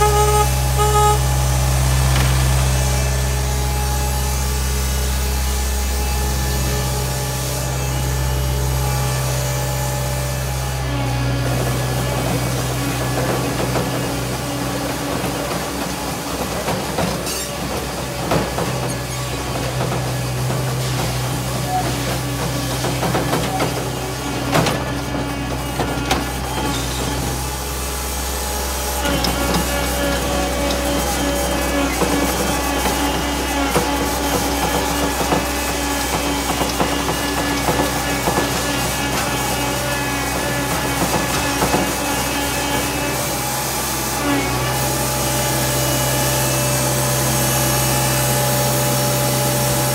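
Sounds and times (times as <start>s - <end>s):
paver engine running: 0.0s - 49.9s.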